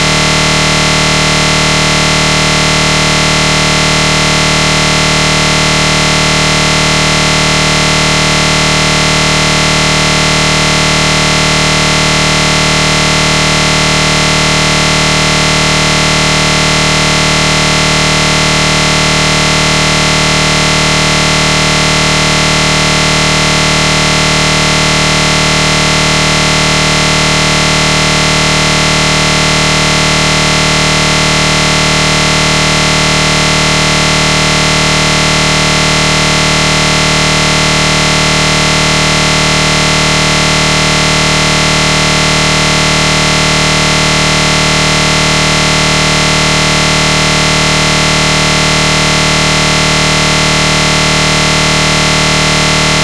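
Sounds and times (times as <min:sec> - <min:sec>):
buzzing drone: 0:00.0 - 0:53.0.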